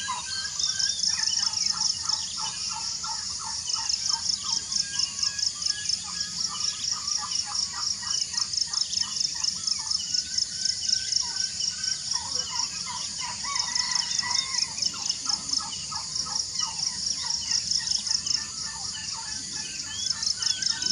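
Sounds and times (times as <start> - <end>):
birds chirping: 0.0 - 20.9
high-pitched insect chorus: 0.0 - 20.9.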